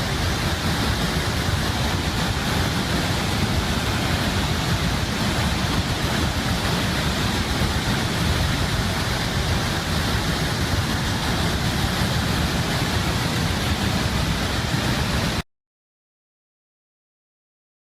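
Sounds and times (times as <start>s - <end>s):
floodwater roaring: 0.0s - 15.4s.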